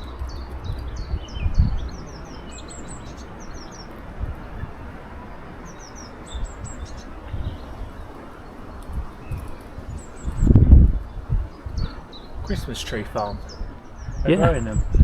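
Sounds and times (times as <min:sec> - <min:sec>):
songbirds chirping: 0:00.0 - 0:15.0
wind rumbling on microphone: 0:00.0 - 0:15.0.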